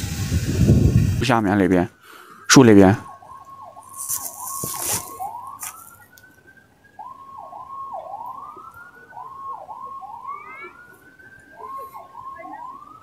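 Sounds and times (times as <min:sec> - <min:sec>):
siren wailing: 0:00.5 - 0:13.0.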